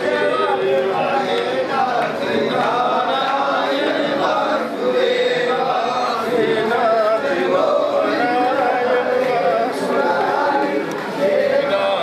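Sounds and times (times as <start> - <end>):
group chanting: 0.0 - 12.0.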